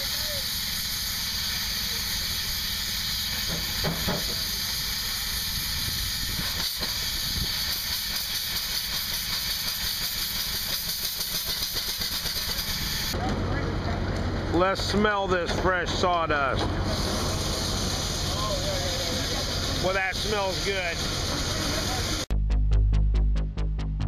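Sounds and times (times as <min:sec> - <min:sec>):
steam engine hissing: 0:00.0 - 0:13.2, 0:14.6 - 0:22.3
steam jets spurting: 0:00.0 - 0:13.2, 0:14.6 - 0:22.3.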